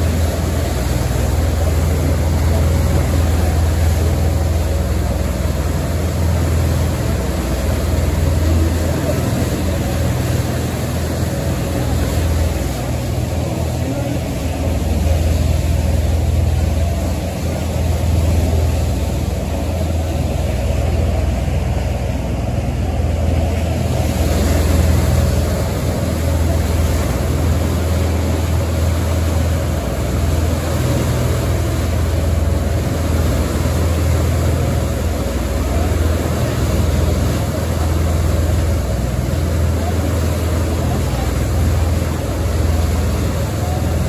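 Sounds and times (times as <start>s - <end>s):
churning wake rushing: 0.0s - 44.0s
ferry engines droning: 0.0s - 44.0s.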